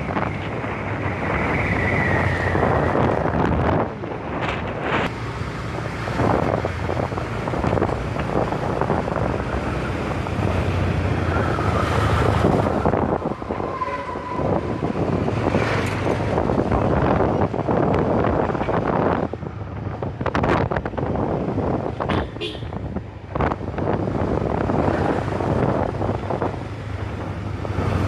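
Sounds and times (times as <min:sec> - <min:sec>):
road noise: 0:00.0 - 0:28.0
wind rushing over microphone: 0:00.0 - 0:28.0.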